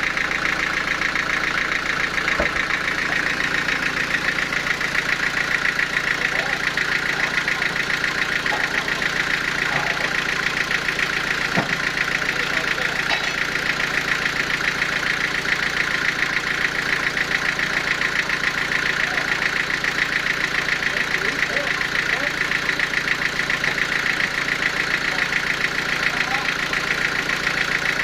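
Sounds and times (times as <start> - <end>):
sawmill machinery pulsing: 0.0 - 28.0.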